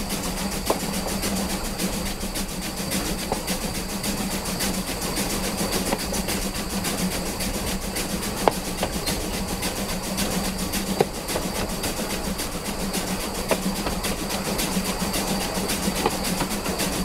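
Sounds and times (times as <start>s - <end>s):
steady hum: 0.0s - 17.0s
steam locomotive beat: 0.0s - 17.0s.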